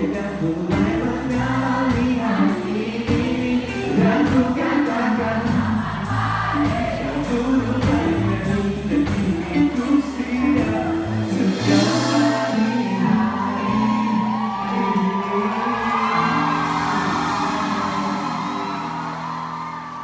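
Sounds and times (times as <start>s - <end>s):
live pop band with singing: 0.0s - 20.0s
steady drum beat: 0.0s - 20.0s
sustained bass notes: 0.0s - 20.0s.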